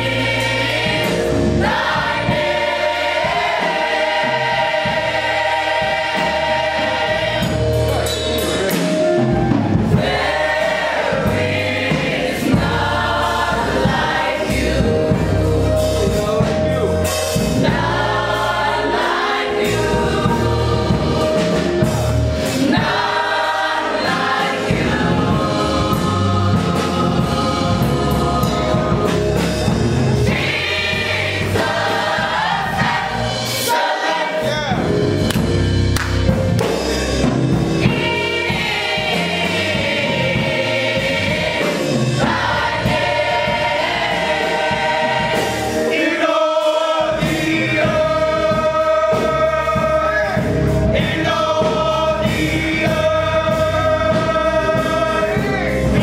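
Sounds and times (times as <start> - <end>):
gospel choir singing: 0.0 - 56.0.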